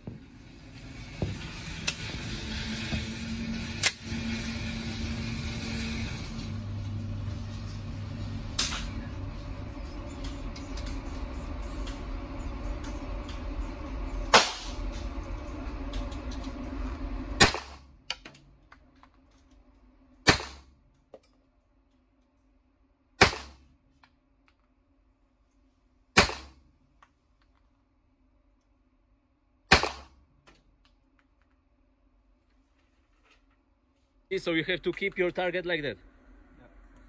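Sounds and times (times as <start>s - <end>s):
steady hum: 0.0s - 30.5s.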